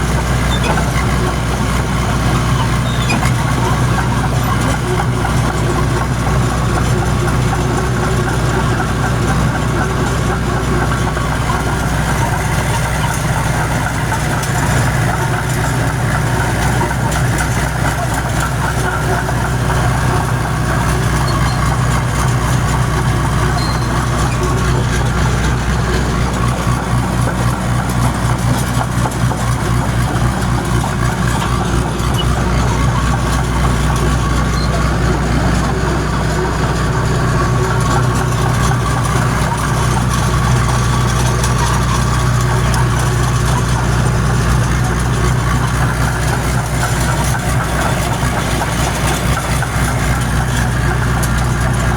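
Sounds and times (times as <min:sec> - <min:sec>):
dozer engine running: 0:00.0 - 0:51.9.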